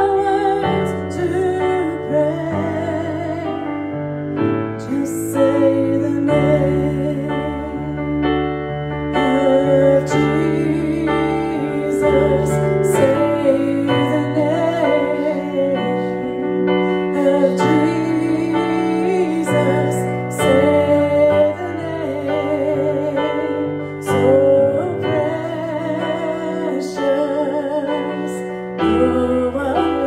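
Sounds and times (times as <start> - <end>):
person singing: 0.0 - 30.0
piano and keyboard chords: 0.0 - 30.0.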